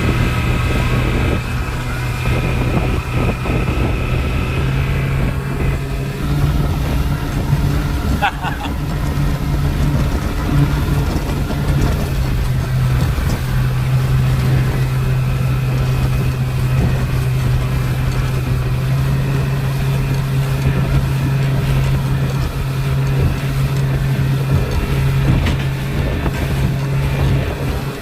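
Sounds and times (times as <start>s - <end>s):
speedboat engine running: 0.0s - 28.0s
wind and water rushing: 0.0s - 28.0s.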